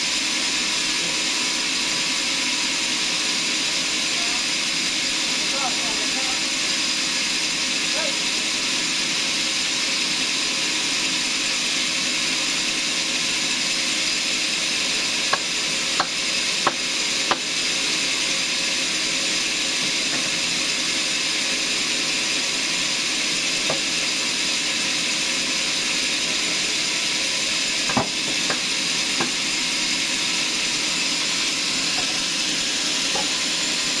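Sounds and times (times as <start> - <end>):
saw blade cutting log: 0.1 - 34.0.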